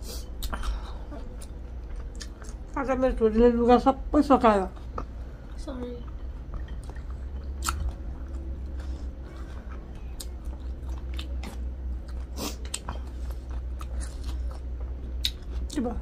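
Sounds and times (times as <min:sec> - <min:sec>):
chewing and biting food: 0:00.4 - 0:02.8, 0:04.8 - 0:15.9.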